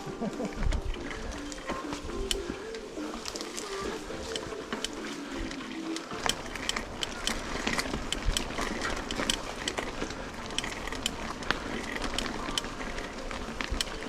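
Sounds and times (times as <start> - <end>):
bicycle clicks and rattles: 0.0 - 14.0.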